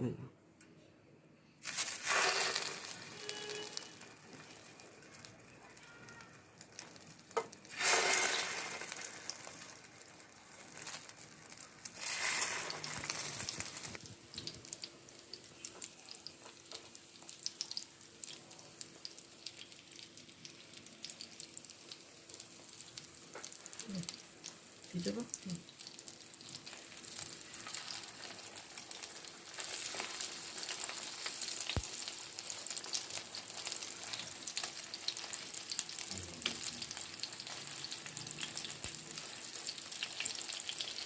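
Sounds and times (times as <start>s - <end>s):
battered food frying in oil: 1.6s - 41.0s.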